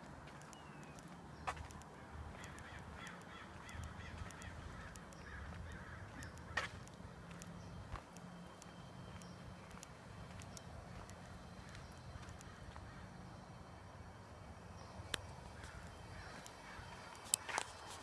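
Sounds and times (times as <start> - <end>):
birds calling: 0.3 - 18.0.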